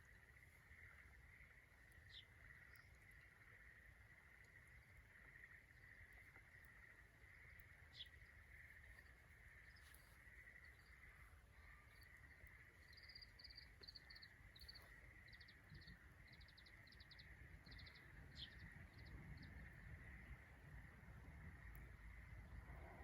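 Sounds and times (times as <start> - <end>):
small bird chirping trills: 0.0 - 23.0.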